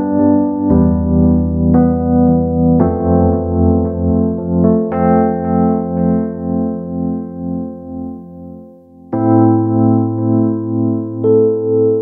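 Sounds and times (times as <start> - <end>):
calm music of held chords: 0.0 - 12.0.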